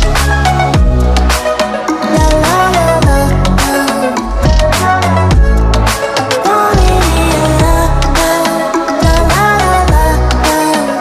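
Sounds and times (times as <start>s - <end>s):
electronic pop music: 0.0s - 11.0s.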